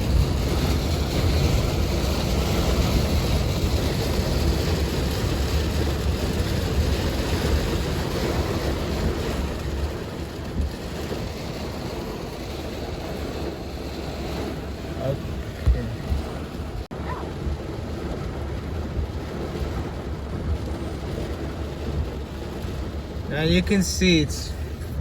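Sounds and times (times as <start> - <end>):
heavy rain pelting a vehicle: 0.0 - 25.0
low rumble: 0.0 - 25.0.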